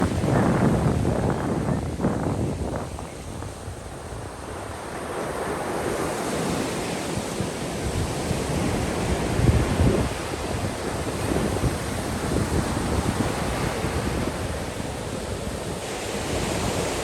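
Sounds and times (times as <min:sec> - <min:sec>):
waves washing on beach: 0:00.0 - 0:17.0
wind buffeting microphone: 0:00.0 - 0:17.0.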